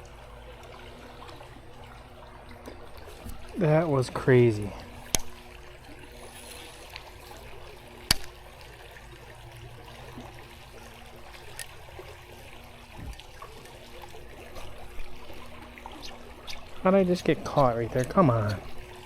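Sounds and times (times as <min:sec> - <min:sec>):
creek water trickling: 0:00.0 - 0:19.0.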